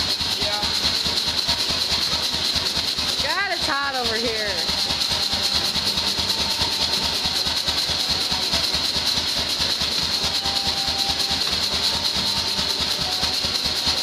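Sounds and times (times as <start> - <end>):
power hammer blows: 0.0 - 14.0.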